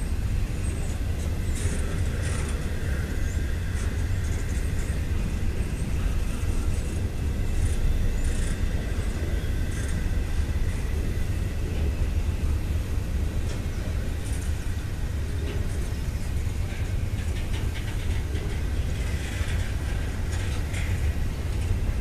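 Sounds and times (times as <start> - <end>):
freight train rumbling on rails: 0.0 - 22.0.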